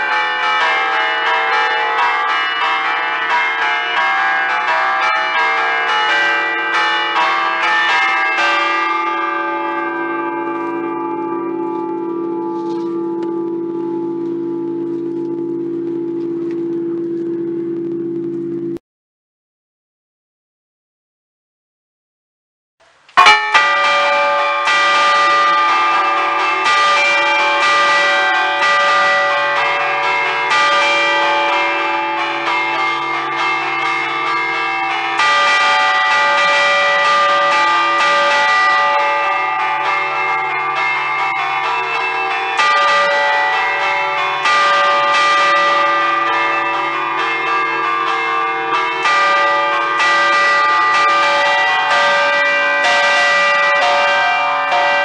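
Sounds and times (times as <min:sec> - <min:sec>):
church bells ringing: 0:00.0 - 0:17.8, 0:23.2 - 0:55.0.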